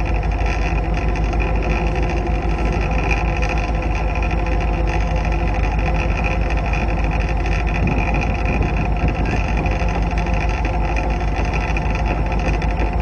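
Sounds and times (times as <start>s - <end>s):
locomotive engine running: 0.0s - 13.0s
wheels humming on rails: 0.0s - 13.0s.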